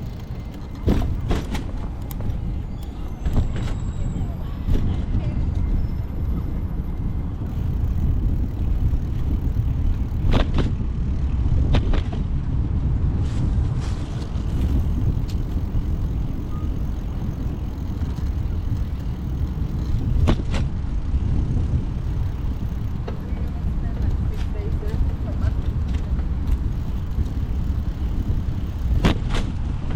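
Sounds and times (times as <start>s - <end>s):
bicycle clicks and rattles: 0.0s - 12.6s, 13.2s - 29.9s
wind buffeting microphone: 0.0s - 29.9s.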